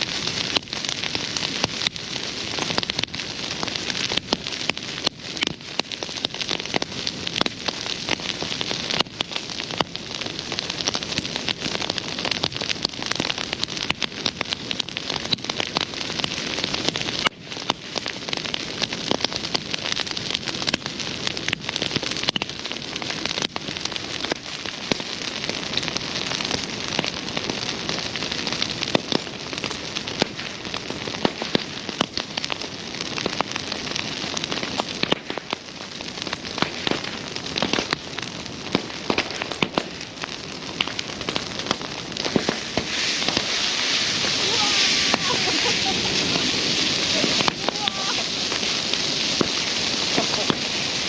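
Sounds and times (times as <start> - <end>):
bonfire crackling and popping: 0.0 - 51.0.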